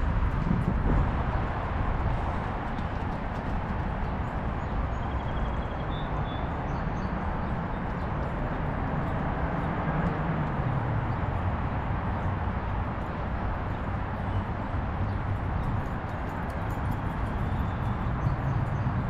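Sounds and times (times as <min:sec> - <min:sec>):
steady low city rumble: 0:00.0 - 0:19.0.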